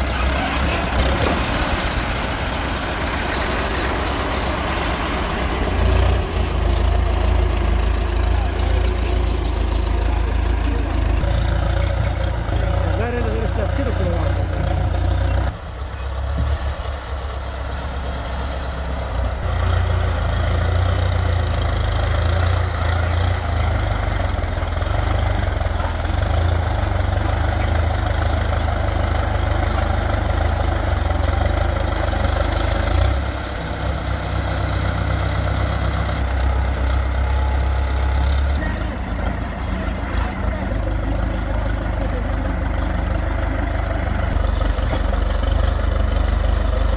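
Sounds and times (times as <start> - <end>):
heavy machinery engine rumbling: 0.0 - 46.9.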